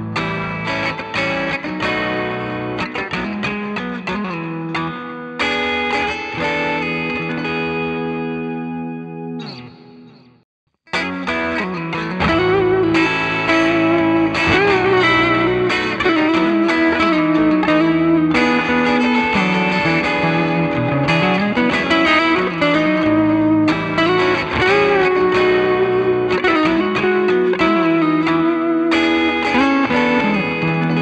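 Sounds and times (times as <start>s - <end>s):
electric guitar with bent notes: 0.0s - 31.0s.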